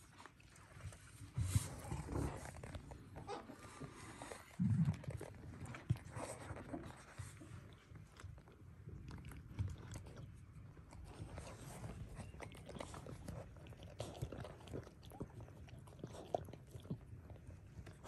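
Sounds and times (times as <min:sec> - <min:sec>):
dog licking puppies: 0:00.0 - 0:18.0
puppies squirming in sand: 0:00.0 - 0:18.0.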